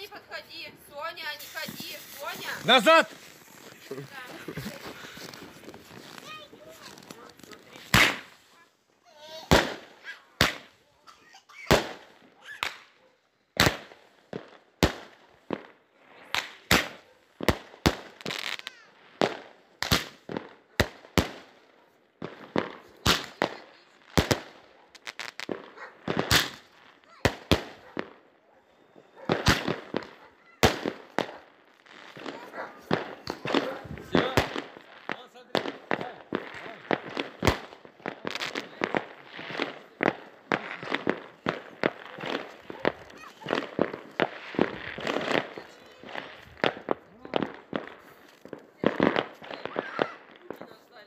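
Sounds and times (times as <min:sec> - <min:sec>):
fireworks bangs and pops: 0:00.0 - 0:51.0.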